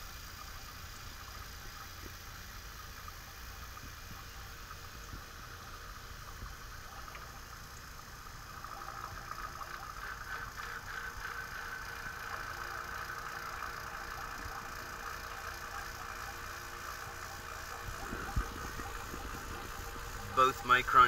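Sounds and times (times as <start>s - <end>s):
vacuum pump running: 0.0s - 21.0s.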